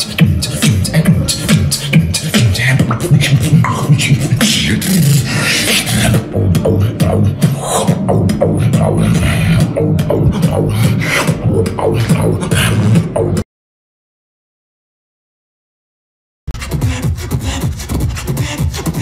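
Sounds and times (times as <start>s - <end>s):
beatboxing: 0.0s - 13.4s, 16.5s - 19.0s.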